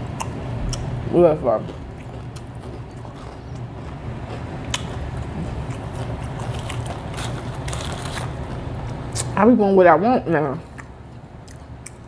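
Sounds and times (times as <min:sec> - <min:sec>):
person chewing fried chicken: 0:00.0 - 0:01.0, 0:01.6 - 0:09.3, 0:10.7 - 0:12.0
steady low hum: 0:00.0 - 0:12.0.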